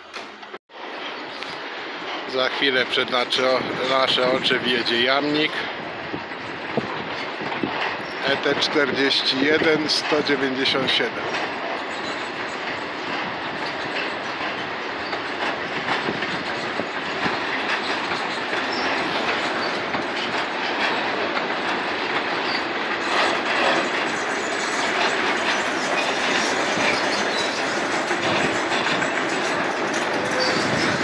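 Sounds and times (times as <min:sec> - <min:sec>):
wagons rumbling: 0:00.0 - 0:31.0
wheels clattering over rail joints: 0:00.0 - 0:31.0.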